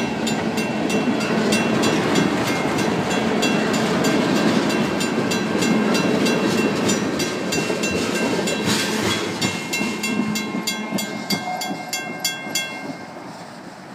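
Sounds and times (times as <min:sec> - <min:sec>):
crossing signal bell ringing: 0:00.0 - 0:13.2
freight train rumble and wheel clatter: 0:00.0 - 0:13.9.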